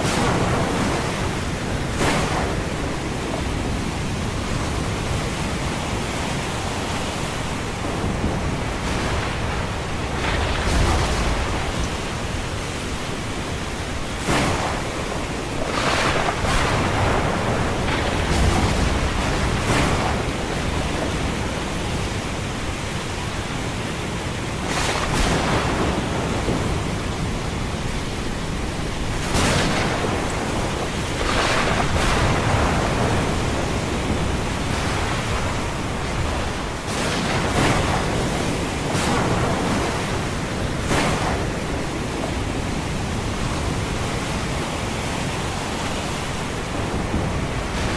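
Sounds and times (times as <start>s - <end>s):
ocean waves rushing: 0.0s - 47.9s.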